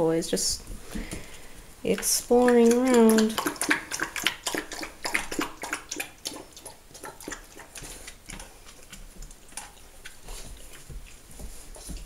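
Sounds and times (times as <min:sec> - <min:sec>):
puppy eating from metal bowl: 0:01.8 - 0:12.0.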